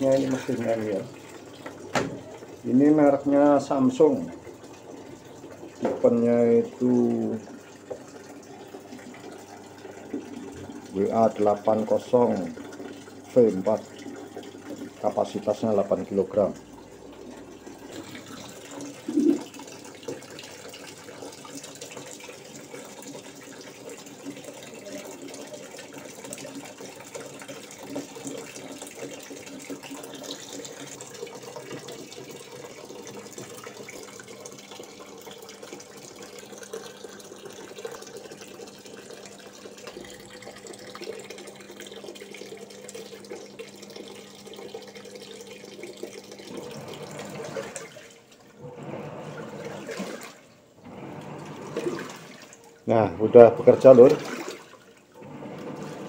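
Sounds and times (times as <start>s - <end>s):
water pouring into washing machine: 0.0s - 56.0s.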